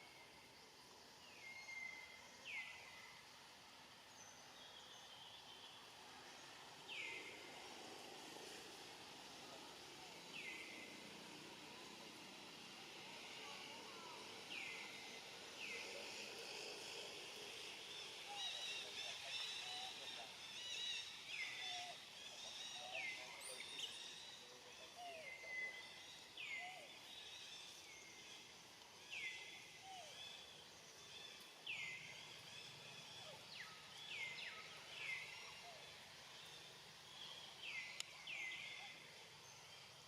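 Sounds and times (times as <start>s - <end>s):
faint outdoor background: 0.0s - 40.0s.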